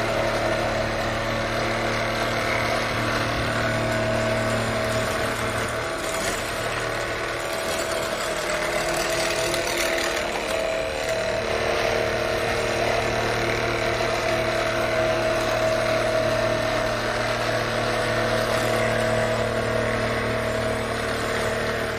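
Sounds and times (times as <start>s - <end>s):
floor scraper motor hum and whine: 0.0s - 21.9s.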